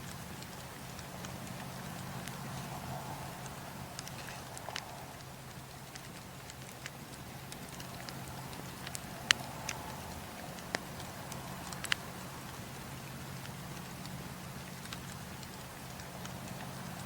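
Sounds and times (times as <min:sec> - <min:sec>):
campfire crackling: 0:00.0 - 0:17.0
low hum and hiss: 0:00.0 - 0:17.0.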